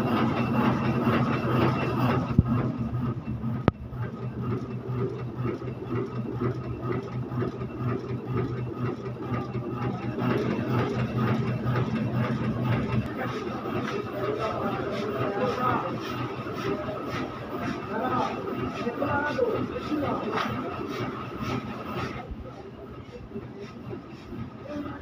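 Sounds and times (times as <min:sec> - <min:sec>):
printing press mechanical hum: 0:00.0 - 0:25.0.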